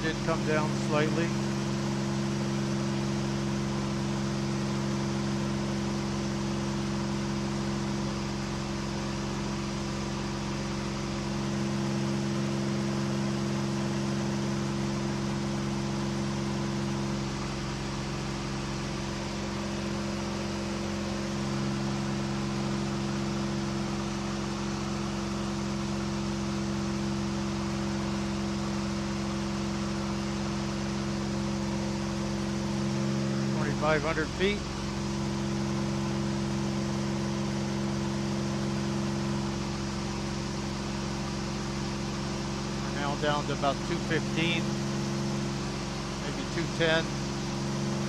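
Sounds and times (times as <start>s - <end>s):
propeller aircraft engine droning: 0.0s - 48.0s.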